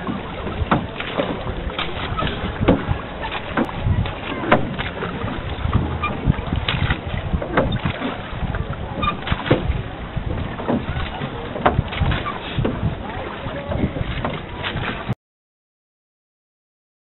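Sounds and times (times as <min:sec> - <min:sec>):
oar knocks and splashes: 0:00.0 - 0:15.2
wind rumble on microphone: 0:00.0 - 0:15.2.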